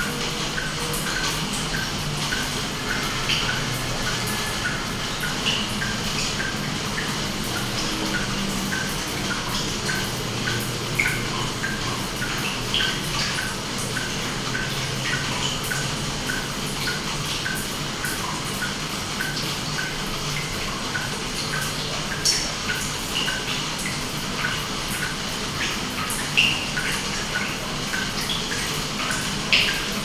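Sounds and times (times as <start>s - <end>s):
water drops plinking: 0.0s - 25.2s.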